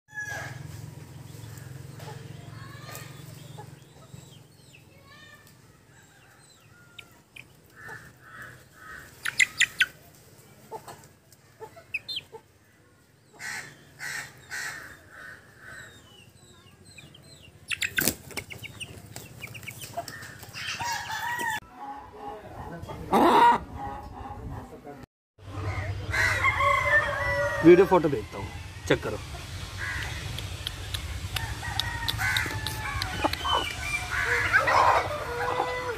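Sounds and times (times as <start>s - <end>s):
chickens clucking: 1.0s - 4.8s, 6.0s - 25.0s, 28.4s - 35.9s.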